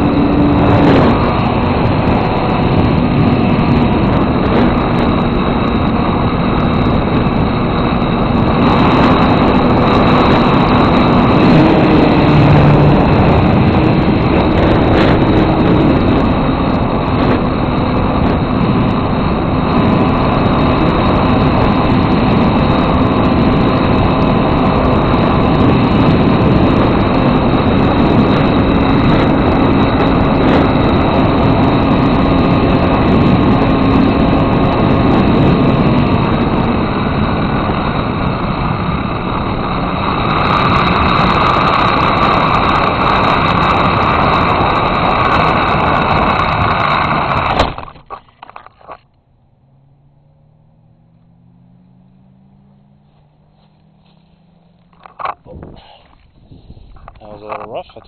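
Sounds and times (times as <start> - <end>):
wind rushing: 0.0 - 48.2, 49.3 - 57.4
small electric motor and propeller whine: 0.0 - 58.0.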